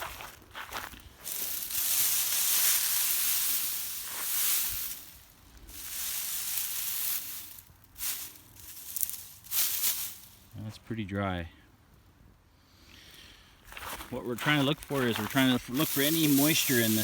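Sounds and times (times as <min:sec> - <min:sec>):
dry hay rustling and crackling: 0:00.0 - 0:10.8, 0:13.6 - 0:17.0.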